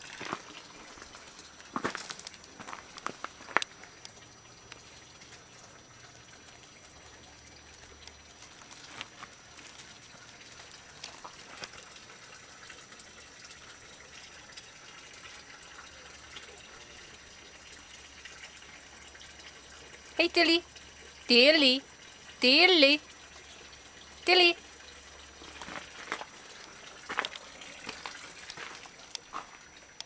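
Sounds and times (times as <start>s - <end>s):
running water hiss: 0.0s - 30.0s.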